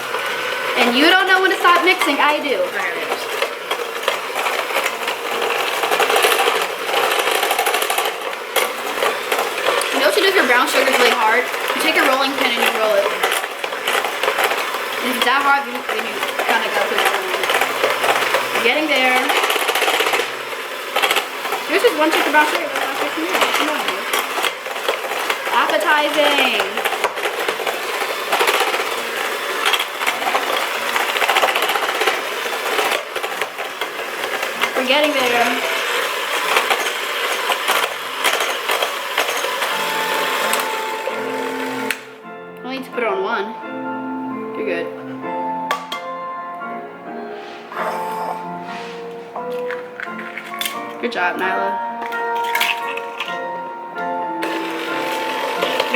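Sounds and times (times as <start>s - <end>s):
beaters rattling in bowl: 0.0s - 42.2s, 47.7s - 55.9s
electric mixer running: 0.0s - 42.6s, 43.6s - 55.9s.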